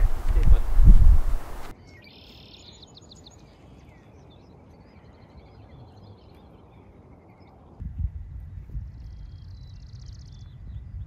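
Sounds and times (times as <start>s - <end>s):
faint birdsong: 0.0s - 11.0s.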